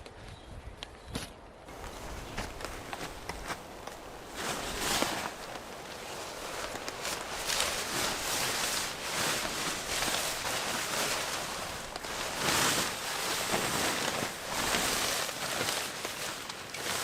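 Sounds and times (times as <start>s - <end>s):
tent rustling and handling: 1.7s - 17.0s.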